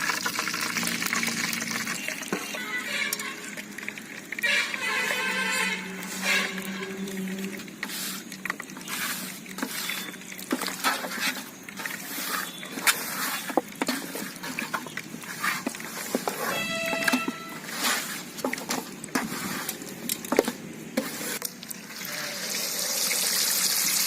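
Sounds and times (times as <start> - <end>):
chicken frying in hot oil: 0.0 - 24.0.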